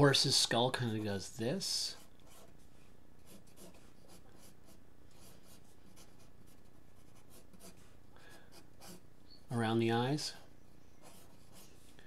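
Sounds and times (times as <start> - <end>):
pencil scratching on paper: 0.8 - 9.0, 10.3 - 11.9.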